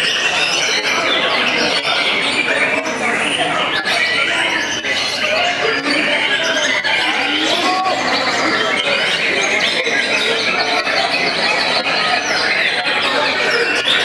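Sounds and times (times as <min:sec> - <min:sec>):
birds singing in chorus: 0:00.0 - 0:14.0.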